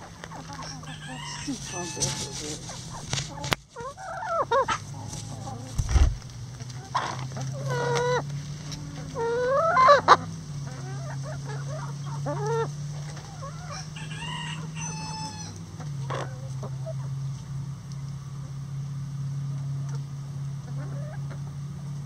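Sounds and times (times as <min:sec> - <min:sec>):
hens clucking and calling: 0:00.0 - 0:17.4, 0:19.8 - 0:22.0
steady low hum: 0:00.0 - 0:22.0.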